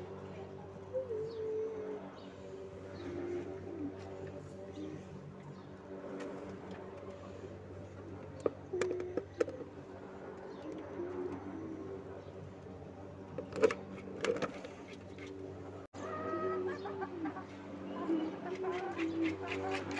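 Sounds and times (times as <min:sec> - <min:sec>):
birds cooing: 0:00.8 - 0:15.4, 0:16.0 - 0:19.9.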